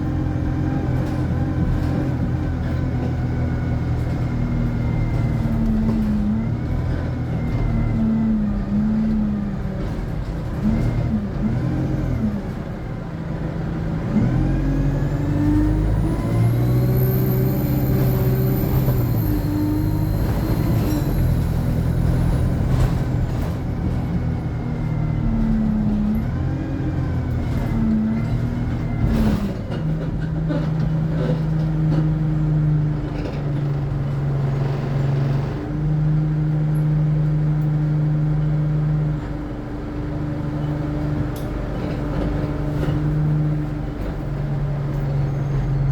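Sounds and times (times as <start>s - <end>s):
bus diesel engine changing gear: 0.0s - 45.9s.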